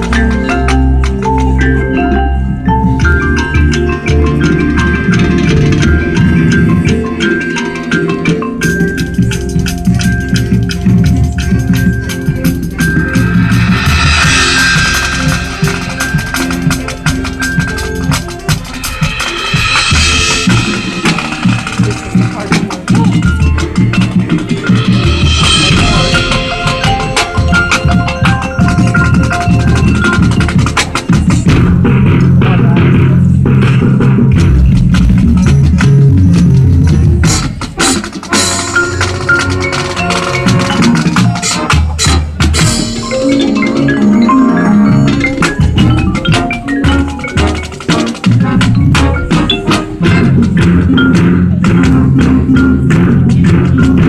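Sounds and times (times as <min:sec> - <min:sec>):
bass and snare drums: 0:00.0 - 0:54.0
marching band playing: 0:00.0 - 0:54.0
marimba: 0:00.0 - 0:54.0.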